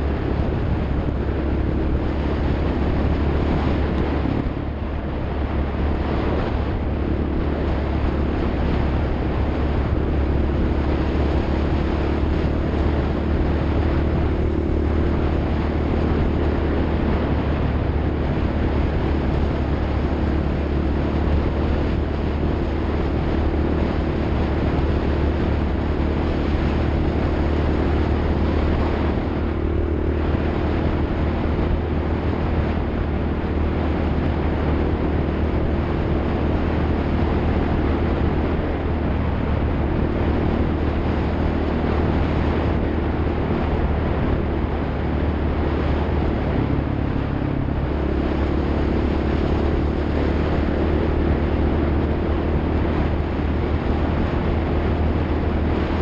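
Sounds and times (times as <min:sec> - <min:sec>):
vehicle engine humming: 0:00.0 - 0:56.0.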